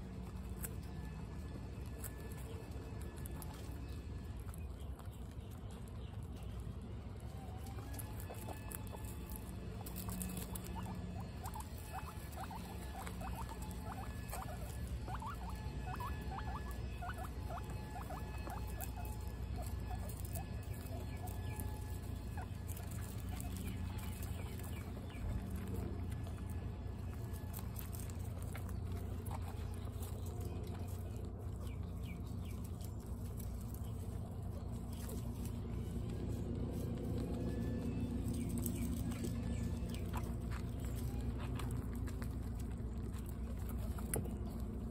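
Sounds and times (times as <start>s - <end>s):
guinea pig chirps: 0.0s - 44.9s
guinea pigs crunching pellets: 0.0s - 44.9s.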